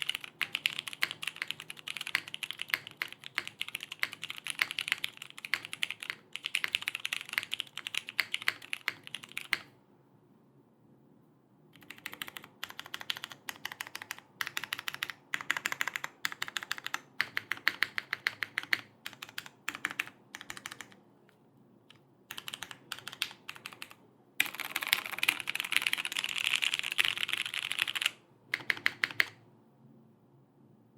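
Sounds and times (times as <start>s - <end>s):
mechanical keyboard typing: 0.0s - 9.7s, 11.8s - 21.0s, 22.3s - 29.4s.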